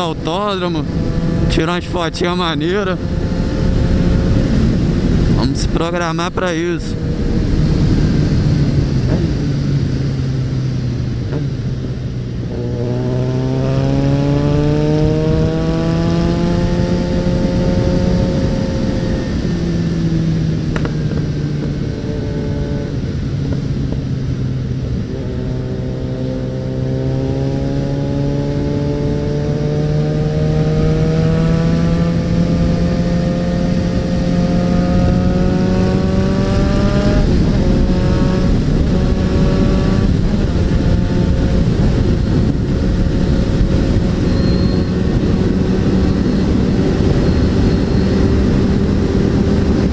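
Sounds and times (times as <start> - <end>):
motorcycle engine revving: 0.0 - 5.5, 6.6 - 49.9.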